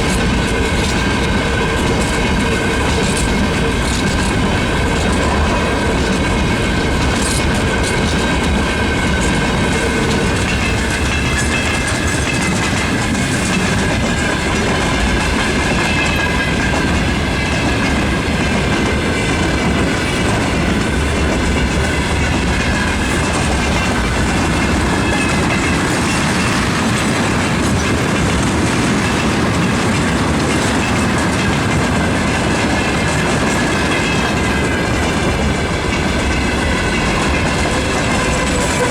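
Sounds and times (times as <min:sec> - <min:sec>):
clickety-clack over rail joints: 0:00.0 - 0:38.9
train wheels rumbling: 0:00.0 - 0:38.9
wheels squealing on rails: 0:00.0 - 0:38.9.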